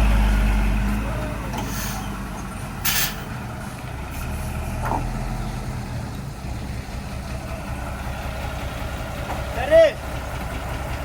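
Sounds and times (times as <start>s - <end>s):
truck engines idling: 0.0s - 11.0s.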